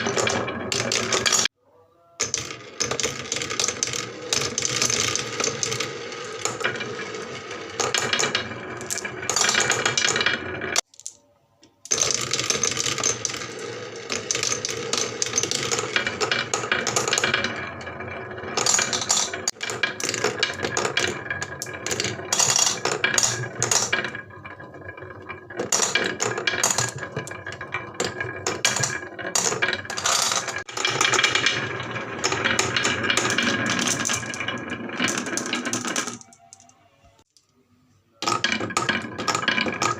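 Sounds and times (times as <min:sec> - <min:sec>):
marbles rattling on wooden run: 0:00.0 - 0:01.5, 0:02.2 - 0:11.2, 0:11.9 - 0:36.7, 0:38.2 - 0:39.9.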